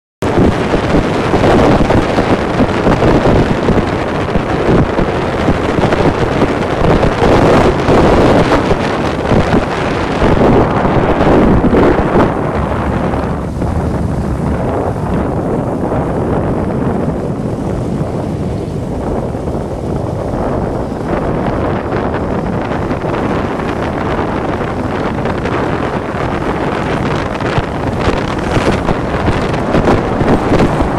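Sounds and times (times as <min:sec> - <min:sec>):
vehicle noise: 0:00.2 - 0:30.9
wind buffeting microphone: 0:00.2 - 0:30.9.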